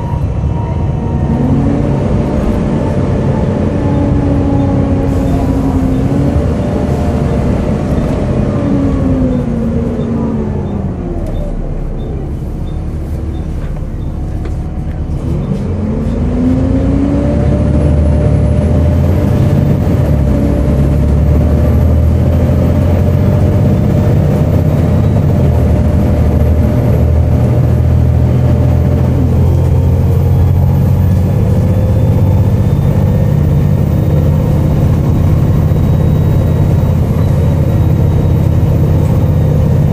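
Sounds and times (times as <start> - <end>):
bus engine and transmission whine: 0.0 - 39.9.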